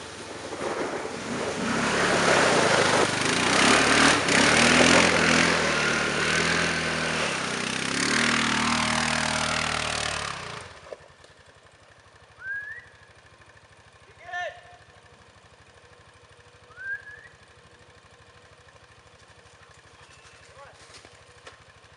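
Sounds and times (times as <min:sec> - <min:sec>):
quad bike engine under throttle: 0:00.0 - 0:21.9.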